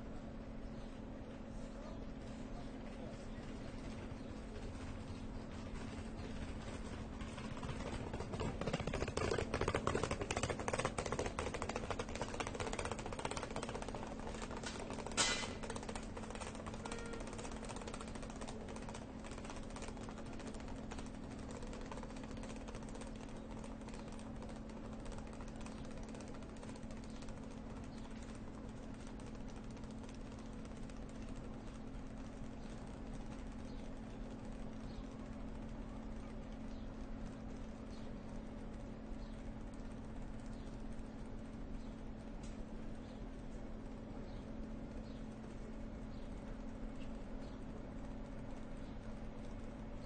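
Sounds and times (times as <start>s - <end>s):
steady low hum: 0.0s - 50.0s
rapid rattling and clicking: 3.1s - 50.0s.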